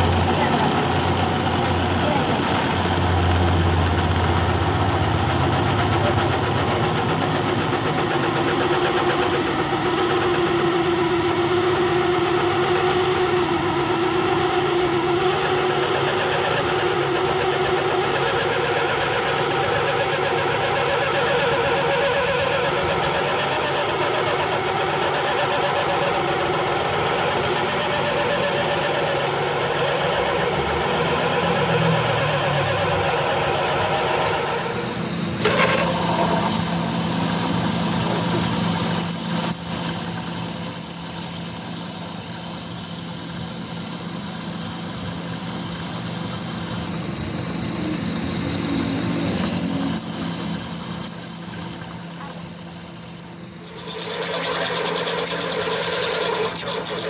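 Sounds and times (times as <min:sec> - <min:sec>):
machine humming and whining: 0:00.0 - 0:57.0
power tool wavering drone: 0:00.0 - 0:57.0.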